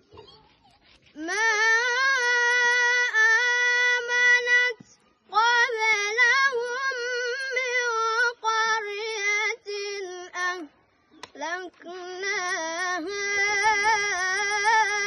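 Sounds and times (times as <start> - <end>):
boy chanting melodically: 1.2 - 15.0.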